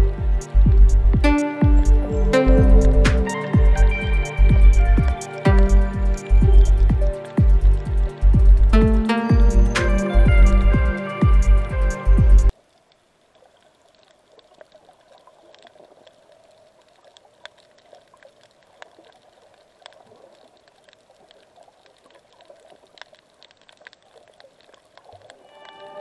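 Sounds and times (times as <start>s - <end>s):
soft underwater hiss: 0.0s - 26.0s.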